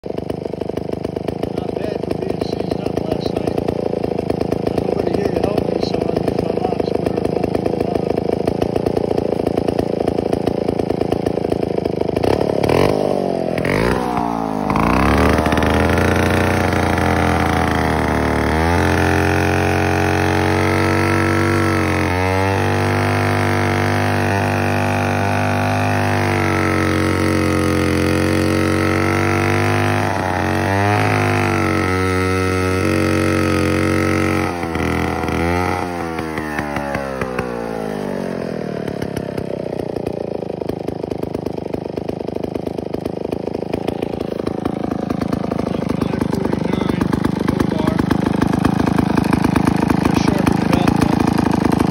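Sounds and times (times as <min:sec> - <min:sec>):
chainsaw cutting log: 0:00.0 - 0:51.9.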